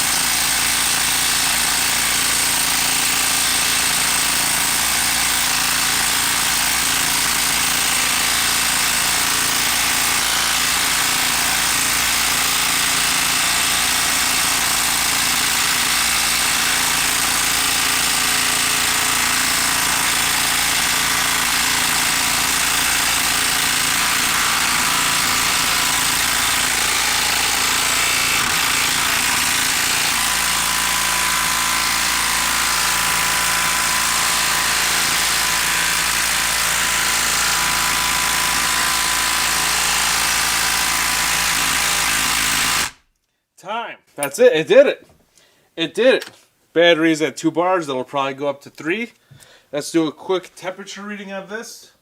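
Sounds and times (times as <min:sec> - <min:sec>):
impact driver hammering: 0:00.0 - 0:43.0.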